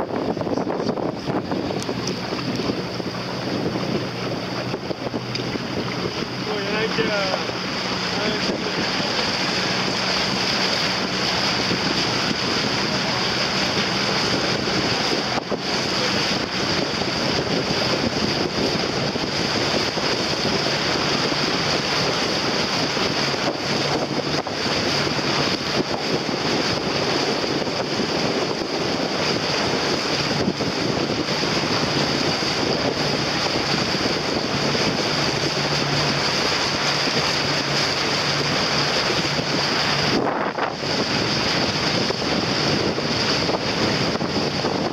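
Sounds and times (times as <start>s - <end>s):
waves lapping: 0.0s - 44.9s
wind across microphone: 0.0s - 44.9s.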